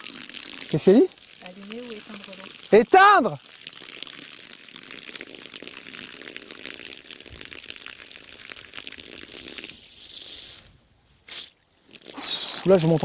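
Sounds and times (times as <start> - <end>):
water rushing through hose: 0.0 - 13.0.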